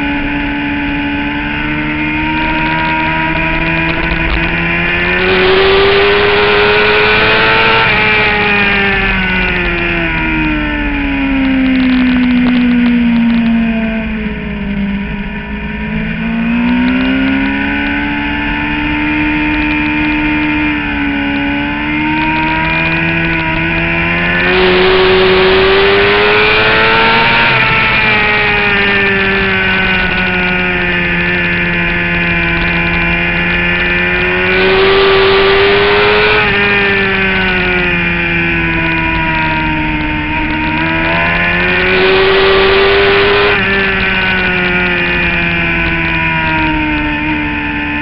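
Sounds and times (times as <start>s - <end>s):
motorcycle engine revving: 0.0s - 48.0s
rushing wind: 0.0s - 48.0s.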